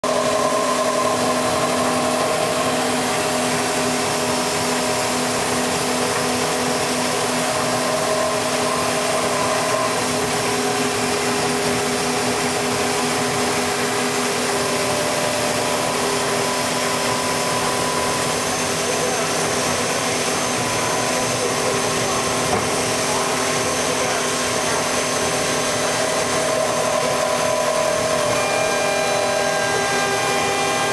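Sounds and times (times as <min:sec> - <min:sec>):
router spindle whining: 0:00.0 - 0:30.9.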